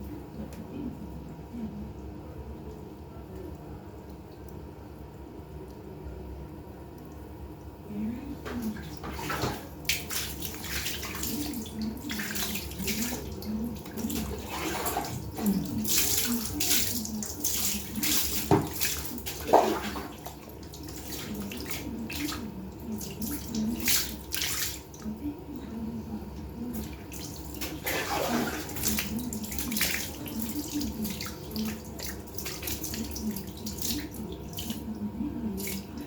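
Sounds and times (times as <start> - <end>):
water splashing and sloshing: 6.8 - 36.0.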